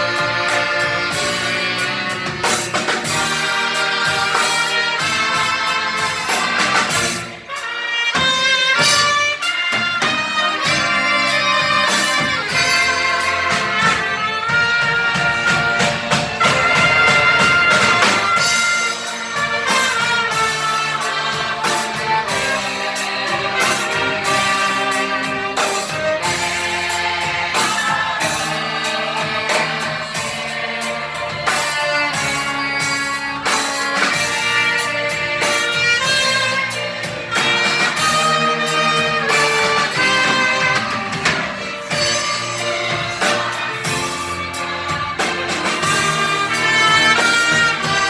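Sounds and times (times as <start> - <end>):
brass melody: 0.0 - 48.0
orchestra playing a hymn: 0.0 - 48.0.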